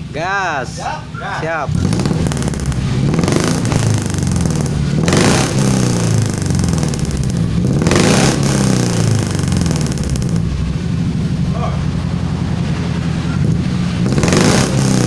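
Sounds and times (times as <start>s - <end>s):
engine revving through exhaust: 1.7s - 15.0s.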